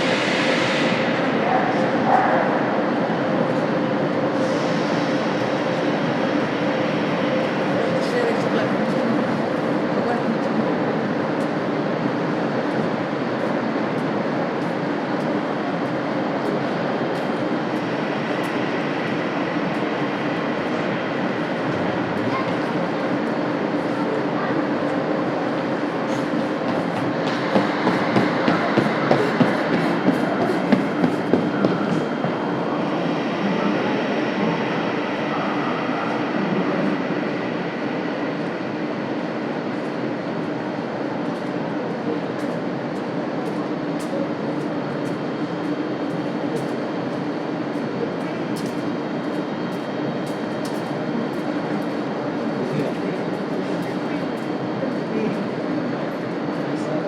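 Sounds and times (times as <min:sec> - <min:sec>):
train and machinery rumble: 0:00.0 - 0:57.0.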